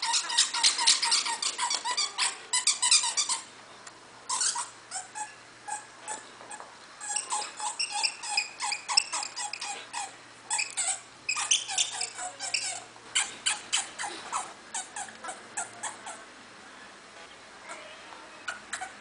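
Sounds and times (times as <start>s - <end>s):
dog toy squeaking: 0.0s - 3.5s, 4.3s - 16.2s, 18.5s - 19.0s.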